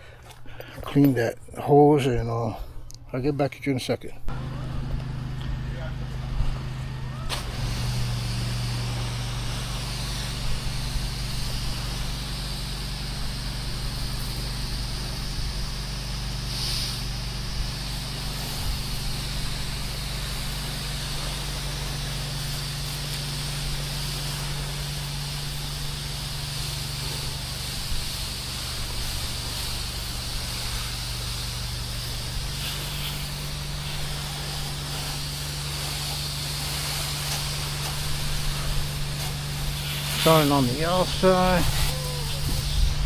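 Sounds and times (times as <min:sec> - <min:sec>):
pressure washer motor running: 0:04.3 - 0:43.0
water spraying hiss: 0:04.3 - 0:43.0.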